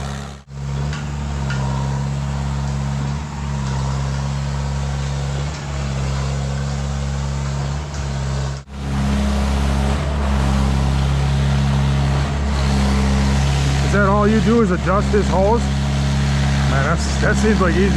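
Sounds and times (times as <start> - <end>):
diesel engine running under load: 0.0 - 17.9.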